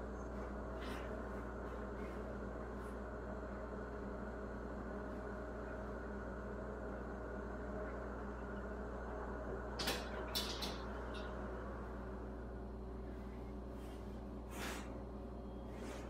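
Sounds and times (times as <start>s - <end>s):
motorized shade humming: 0.0s - 16.0s.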